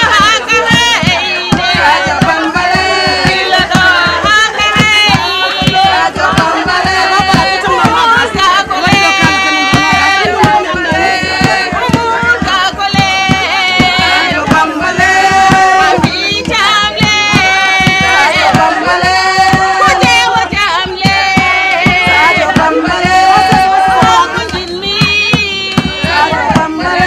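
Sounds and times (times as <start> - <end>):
percussion beat: 0.0 - 27.0
woman singing: 0.0 - 27.0.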